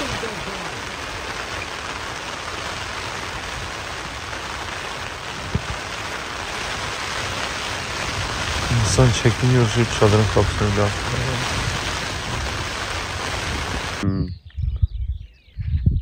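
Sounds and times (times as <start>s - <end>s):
rain on tent fabric: 0.0s - 14.0s.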